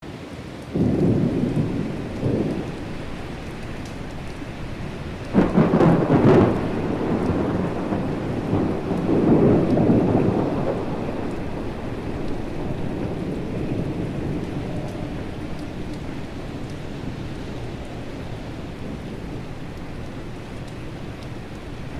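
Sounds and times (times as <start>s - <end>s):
steady rain: 0.0s - 21.9s
thunder rumble: 0.6s - 21.9s
thunder crack: 0.7s - 21.9s.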